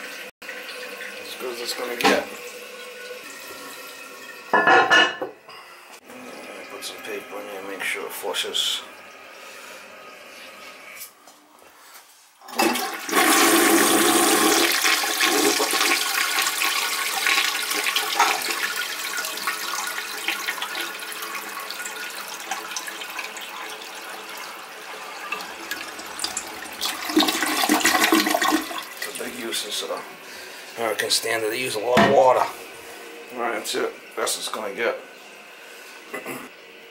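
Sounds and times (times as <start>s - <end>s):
toilet flushing: 0.0s - 5.2s, 6.0s - 11.2s, 12.4s - 36.9s.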